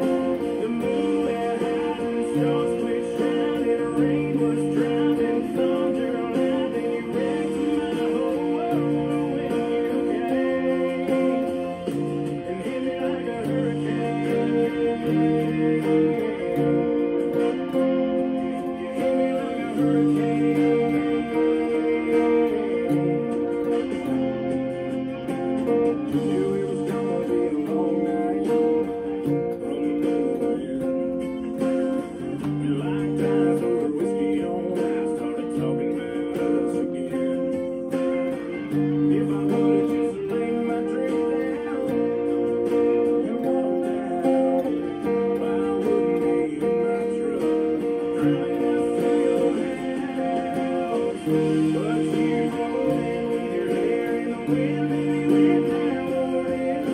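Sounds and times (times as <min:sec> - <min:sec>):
country-rock band with singing: 0:00.0 - 0:56.9
electric guitar playing: 0:00.0 - 0:56.9.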